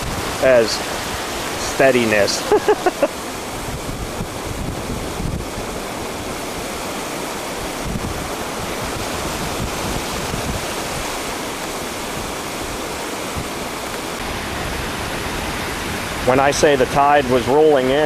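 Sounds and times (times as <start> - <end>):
ocean surf washing onto beach: 0.0 - 18.0
wind gusting across microphone: 0.0 - 18.0.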